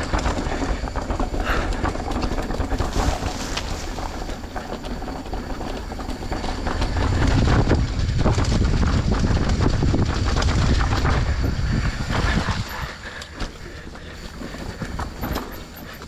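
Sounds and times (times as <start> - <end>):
low rumble: 0.0 - 15.5
bike rattling over rough trail: 0.0 - 16.0.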